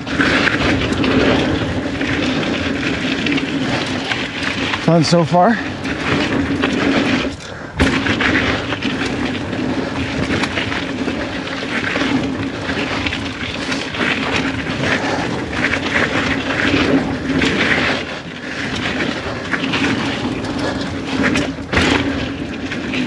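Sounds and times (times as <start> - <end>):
bike rattling clicks: 0.0 - 23.0
bike tyres rumbling on dirt: 0.0 - 23.0
wind noise on microphone: 0.0 - 23.0.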